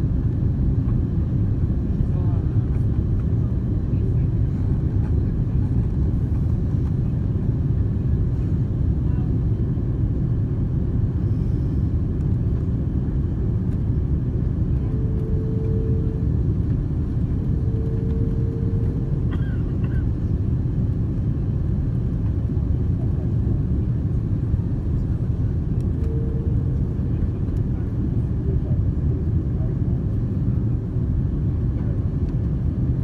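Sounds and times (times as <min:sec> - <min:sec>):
jet engine and airflow rumble: 0:00.0 - 0:33.0.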